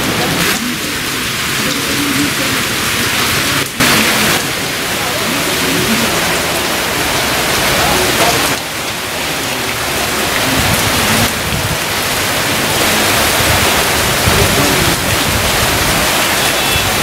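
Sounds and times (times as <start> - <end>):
heavy rain on a wet road: 0.0 - 17.0.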